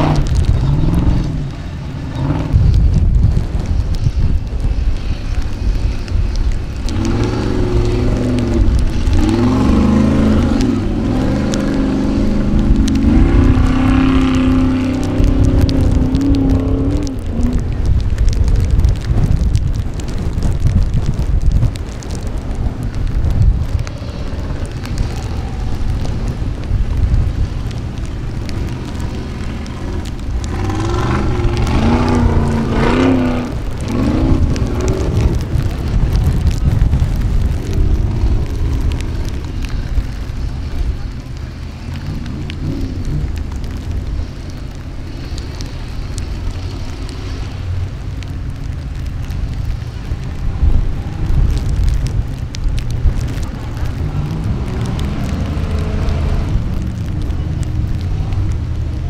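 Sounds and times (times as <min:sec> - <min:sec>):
wind rumbling on the microphone: 0:00.0 - 0:59.0.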